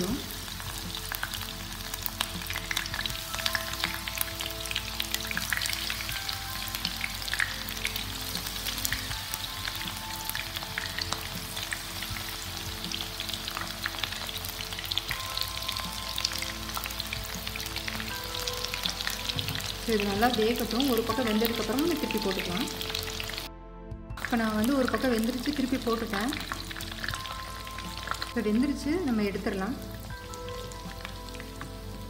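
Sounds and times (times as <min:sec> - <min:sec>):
oil sizzling and popping: 0:00.0 - 0:23.5, 0:24.2 - 0:32.0.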